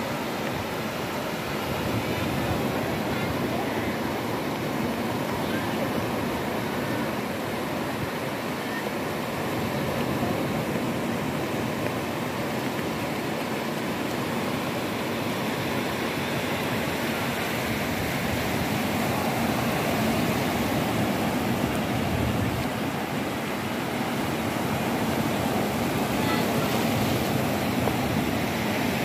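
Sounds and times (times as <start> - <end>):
ocean surf breaking on beach: 0.0 - 29.0.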